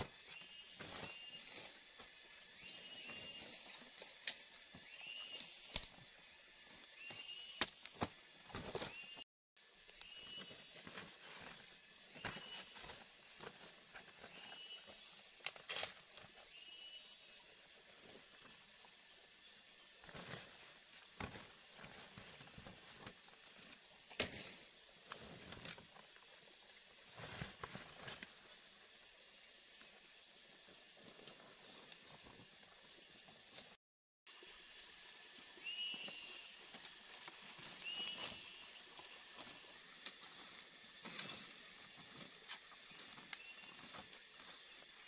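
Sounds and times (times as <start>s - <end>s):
crackling leaves and stems: 0.0s - 33.8s, 35.4s - 45.0s.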